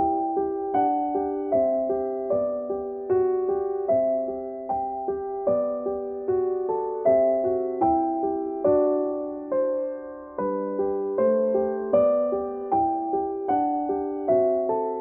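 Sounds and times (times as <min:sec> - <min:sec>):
gentle solo piano piece: 0:00.0 - 0:15.0.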